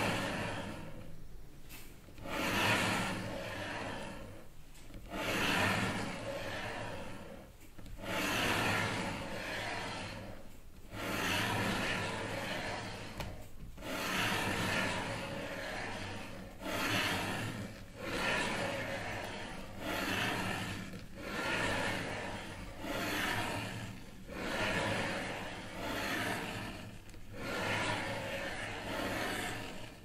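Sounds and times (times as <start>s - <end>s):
rhythmic rubbing strokes: 0.0s - 30.0s.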